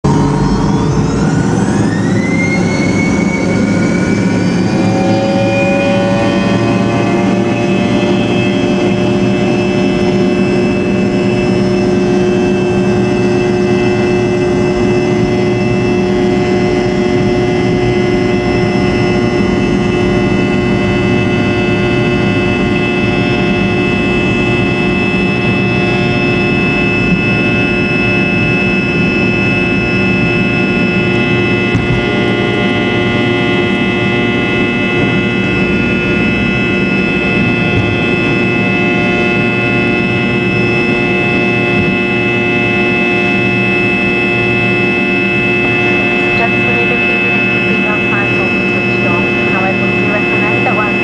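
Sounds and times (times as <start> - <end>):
jet engines roaring with whine: 0.0 - 51.0.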